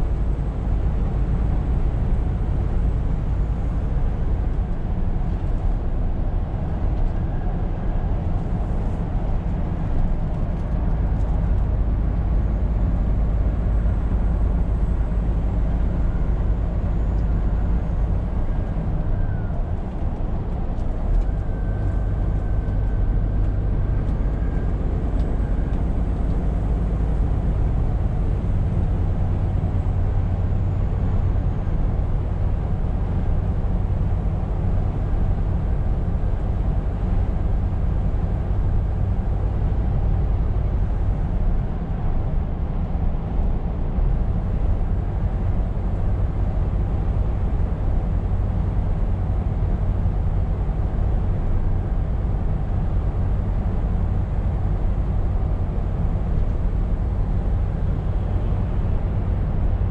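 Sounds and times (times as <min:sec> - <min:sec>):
road and tyre noise: 0:00.0 - 0:59.9
truck engine drone: 0:00.0 - 0:59.9.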